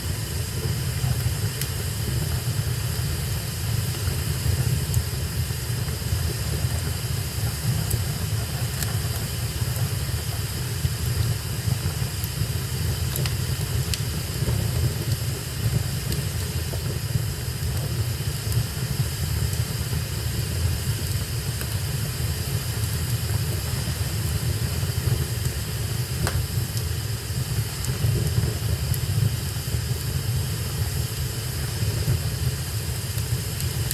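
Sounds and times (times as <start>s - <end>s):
fire burning in fireplace: 0.0s - 33.9s
fire crackles: 0.0s - 33.9s.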